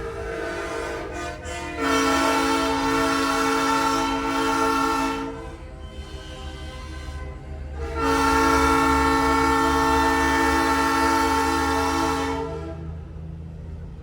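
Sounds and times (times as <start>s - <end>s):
truck rumbling: 0.0s - 14.0s
train horn chord: 0.4s - 13.0s.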